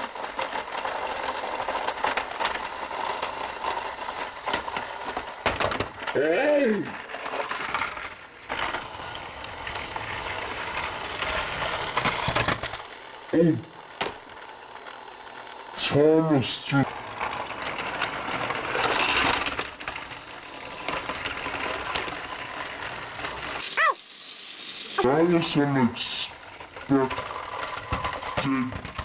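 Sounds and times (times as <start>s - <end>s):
toy train clicking and rattling: 0.0s - 29.0s.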